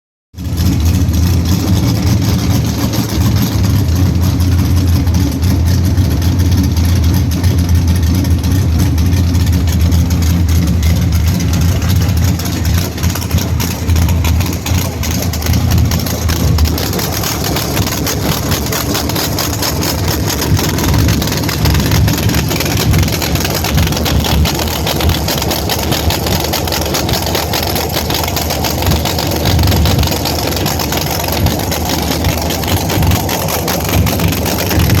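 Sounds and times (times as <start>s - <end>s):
car engine idling: 0.3s - 35.0s.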